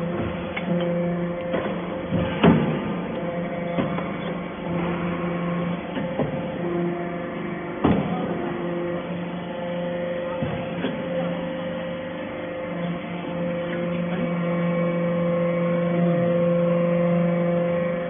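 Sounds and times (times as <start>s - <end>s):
hydraulic baler humming: 0.0s - 18.0s.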